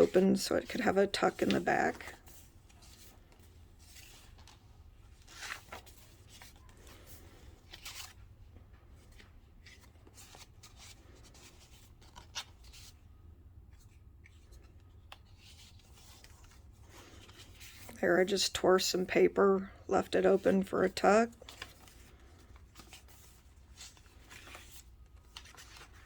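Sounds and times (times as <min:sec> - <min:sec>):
page flips: 0:00.0 - 0:13.0, 0:13.8 - 0:18.0, 0:21.3 - 0:26.0
paper rustling: 0:00.0 - 0:13.0, 0:13.7 - 0:18.0, 0:20.3 - 0:26.0.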